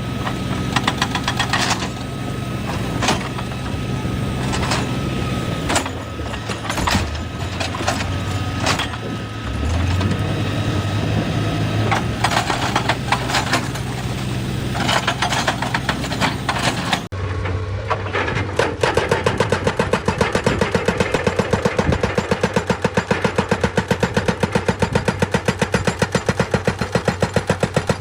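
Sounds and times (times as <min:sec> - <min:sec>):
excavator diesel engine: 0:00.0 - 0:28.0
rock and metal clattering: 0:00.2 - 0:26.8.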